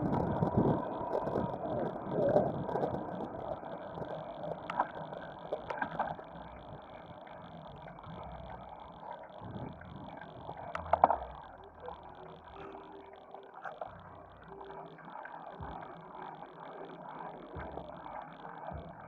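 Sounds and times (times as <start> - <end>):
bicycle road and wind noise: 0.0 - 19.0.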